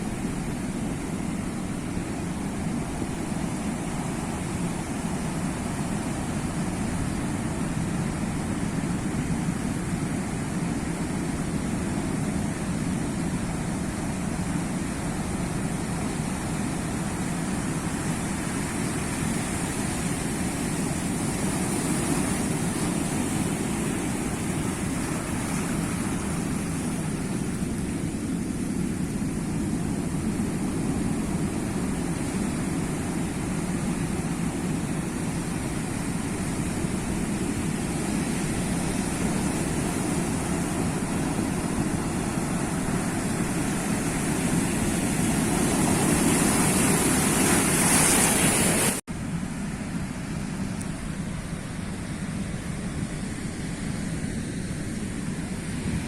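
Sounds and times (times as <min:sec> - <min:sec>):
sea waves surf: 0:00.0 - 0:56.0.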